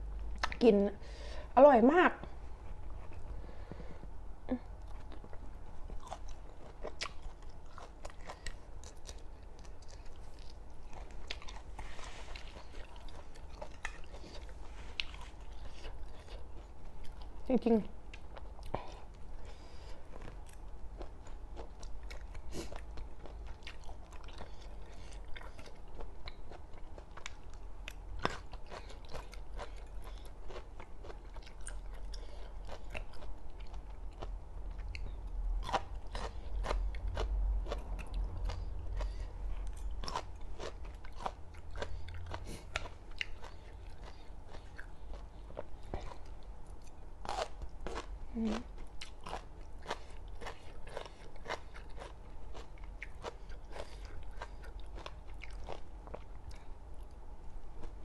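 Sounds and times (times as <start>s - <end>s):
chewing crunchy food: 2.2s - 58.0s.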